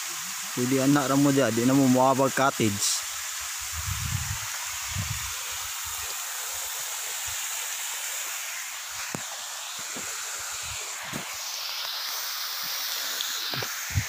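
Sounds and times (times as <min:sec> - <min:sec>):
waterfall hissing: 0:00.0 - 0:14.0.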